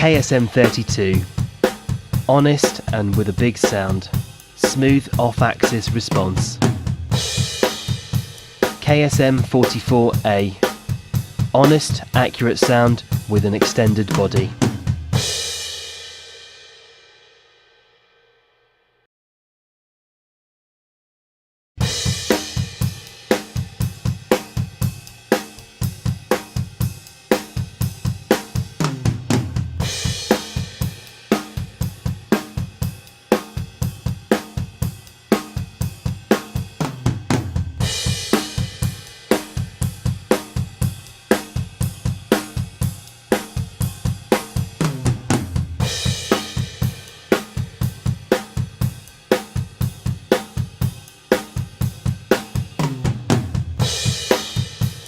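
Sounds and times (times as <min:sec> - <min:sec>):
descending drum fill: 0:00.0 - 0:16.4, 0:21.8 - 0:55.0
drum kit groove: 0:00.0 - 0:17.1, 0:21.8 - 0:55.0.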